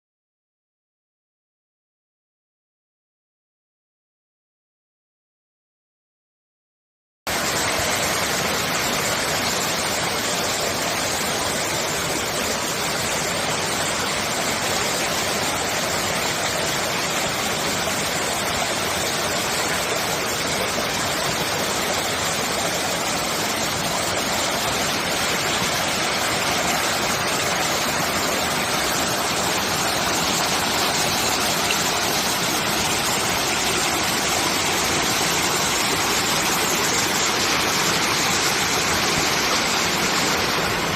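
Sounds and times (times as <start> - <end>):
stream rushing over rocks: 7.3 - 40.9.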